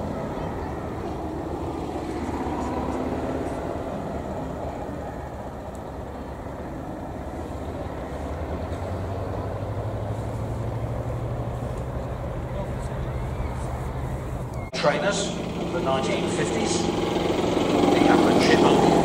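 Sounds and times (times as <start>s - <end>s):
aircraft radial engines droning: 0.0s - 19.0s.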